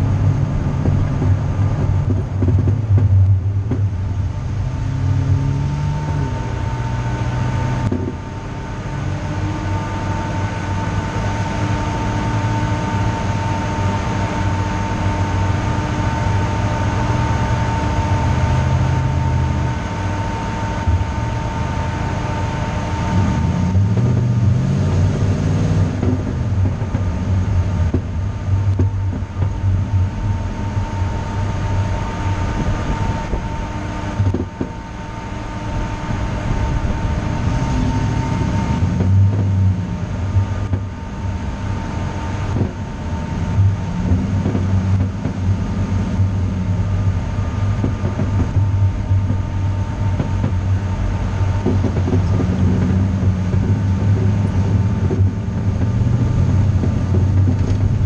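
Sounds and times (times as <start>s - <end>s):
car engine droning: 0.0s - 58.0s
road and wind noise: 0.0s - 58.0s.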